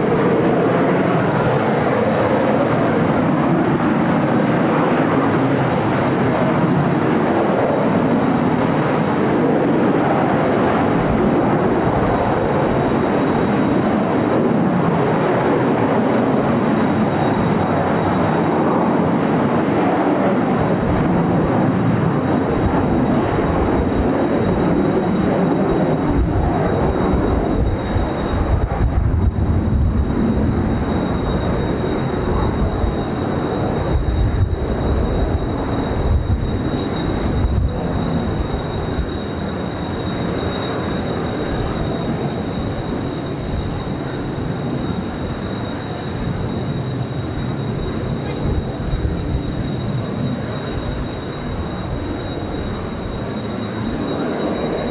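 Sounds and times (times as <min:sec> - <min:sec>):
jet roar overhead: 0:00.0 - 0:54.9
high whine: 0:00.4 - 0:54.9
wind buffeting microphone: 0:01.1 - 0:54.9.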